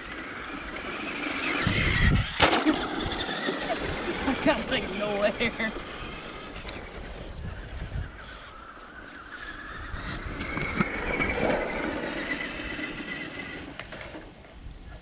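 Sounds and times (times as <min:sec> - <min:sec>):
electric toy car motor whining: 0:00.0 - 0:14.1.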